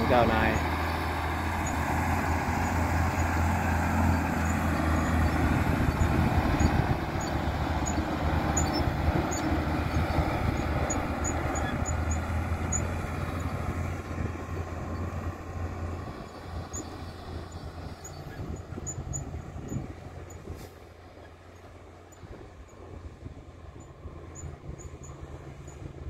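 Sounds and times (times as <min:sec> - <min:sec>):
diesel truck engine driving: 0:00.0 - 0:26.0.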